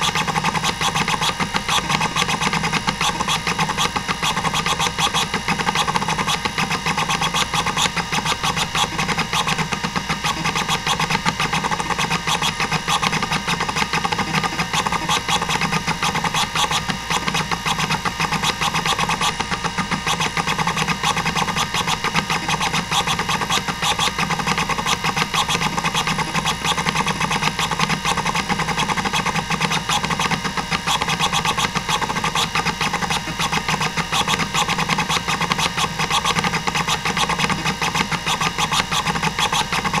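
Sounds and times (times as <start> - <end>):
hard drive head clicking: 0.0 - 40.0
hard drive spindle whine: 0.0 - 40.0.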